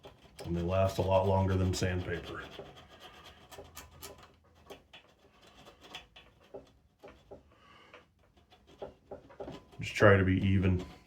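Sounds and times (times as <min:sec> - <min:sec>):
file scraping metal: 0:00.0 - 0:11.0.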